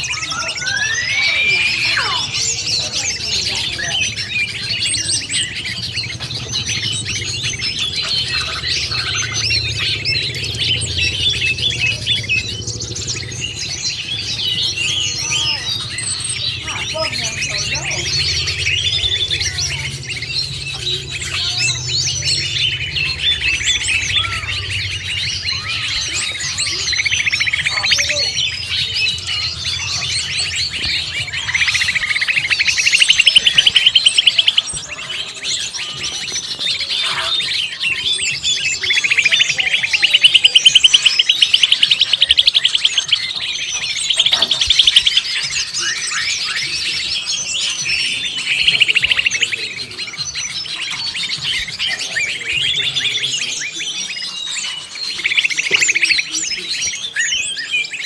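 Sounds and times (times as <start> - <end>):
leafbird calls: 0.0 - 58.0
loud rapid bird trills: 0.0 - 58.0
small birds chirping and chattering: 0.0 - 58.0.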